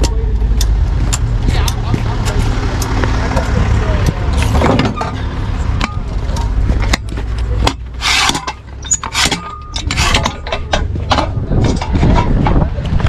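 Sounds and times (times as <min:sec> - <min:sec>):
sharp clicks and knocks: 0:00.0 - 0:13.0
vehicle engine rumbling: 0:00.0 - 0:13.0.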